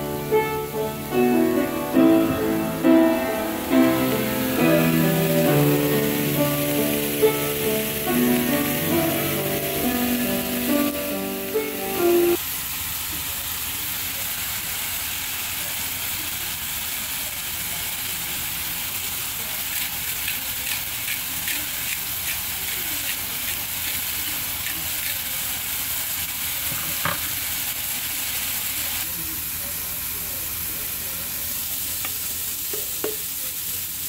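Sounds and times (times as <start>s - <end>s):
mushrooms sizzling in a frying pan: 1.8s - 34.0s.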